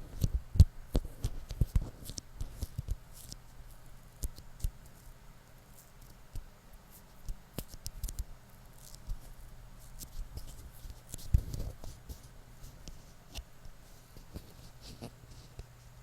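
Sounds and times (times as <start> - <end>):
light clicks taps and scratches: 0.0 - 15.9.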